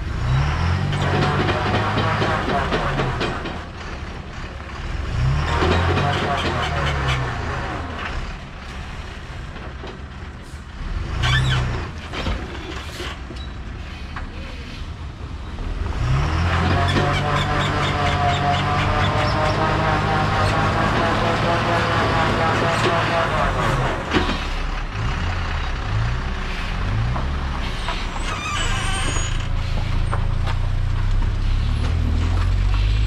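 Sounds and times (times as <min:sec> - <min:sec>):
lorry diesel engine revving: 0:00.0 - 0:09.5, 0:15.7 - 0:33.0.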